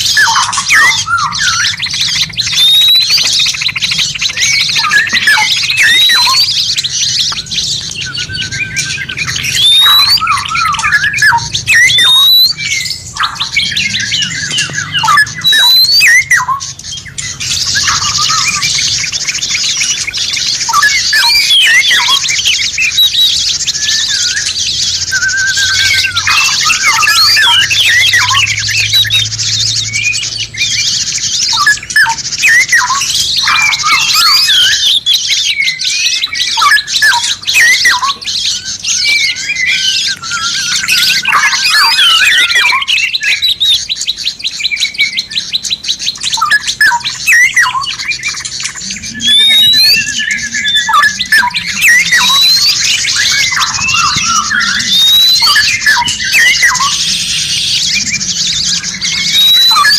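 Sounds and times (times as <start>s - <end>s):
songbirds chirping and whistling: 0.0s - 59.9s.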